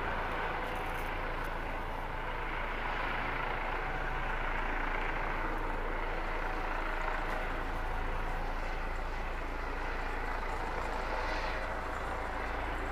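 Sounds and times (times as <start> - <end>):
helicopter rotor and engine: 0.0 - 12.9.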